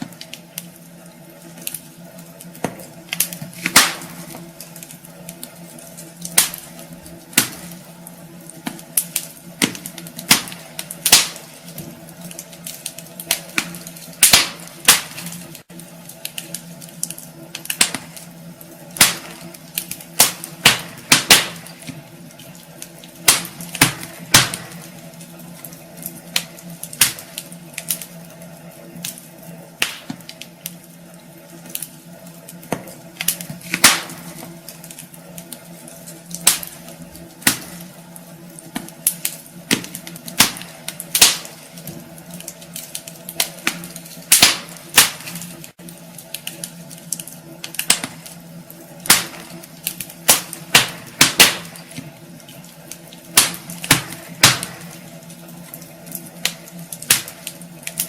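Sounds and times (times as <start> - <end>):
steady low hum: 0.0 - 58.0
wood fire crackling and popping: 0.0 - 58.0.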